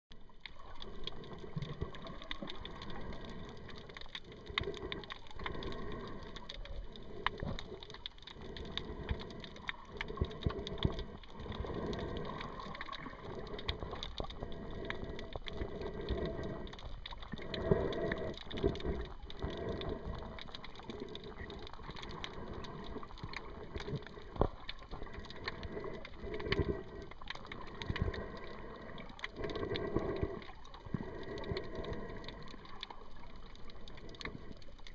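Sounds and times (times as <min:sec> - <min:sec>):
muffled underwater sloshing: 0:00.1 - 0:34.9
faint crackling: 0:00.2 - 0:34.9.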